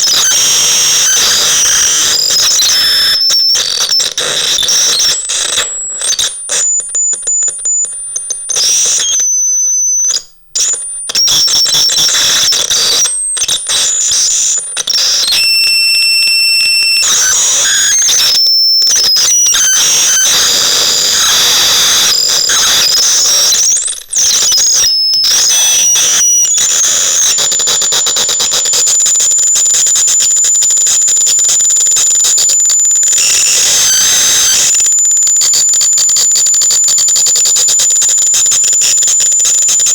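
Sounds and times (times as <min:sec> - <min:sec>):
shrill electronic tones and squeals: 0:00.0 - 0:39.9.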